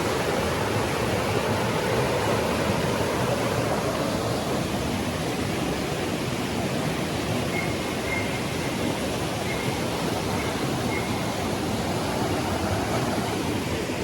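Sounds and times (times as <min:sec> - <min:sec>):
rushing water roar: 0:00.0 - 0:14.0.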